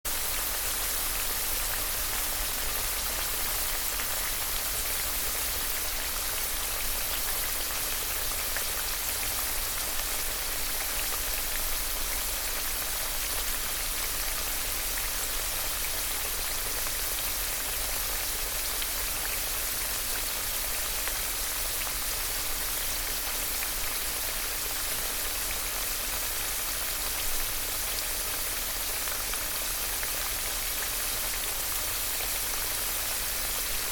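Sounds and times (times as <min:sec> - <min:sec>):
food frying in hot oil: 0:00.1 - 0:33.9.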